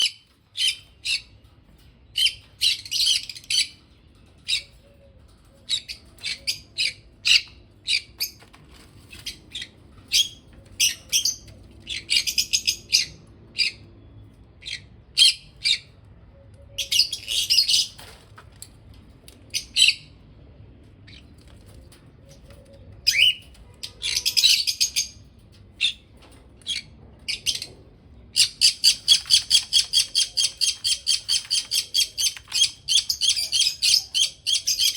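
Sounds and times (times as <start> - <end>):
parrots chirping and squawking: 0.0 - 13.9, 14.5 - 16.0, 16.7 - 18.2, 21.1 - 34.9.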